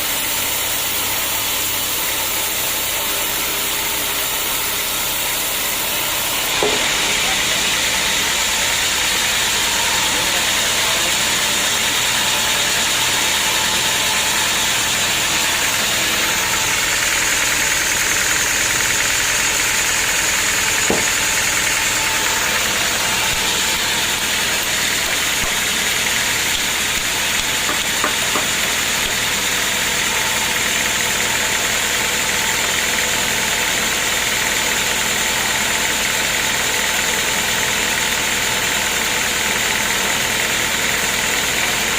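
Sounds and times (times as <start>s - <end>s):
sawmill saw cutting log: 0.0s - 41.9s.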